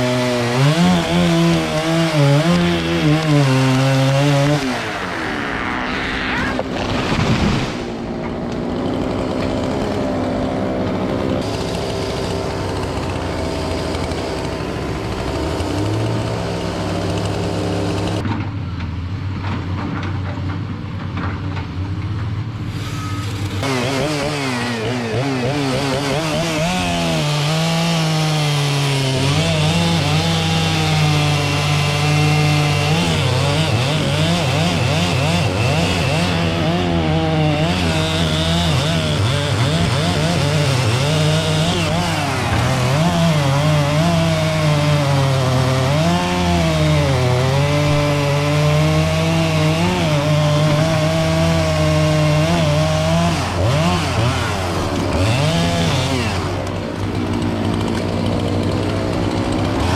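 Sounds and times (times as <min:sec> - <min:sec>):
chainsaw cutting wood: 0:00.0 - 0:18.2, 0:22.6 - 0:59.9.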